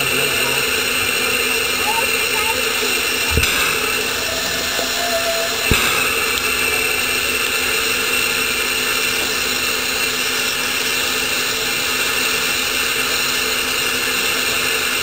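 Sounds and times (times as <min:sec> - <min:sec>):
steam locomotive rushing exhaust: 0:00.0 - 0:15.0.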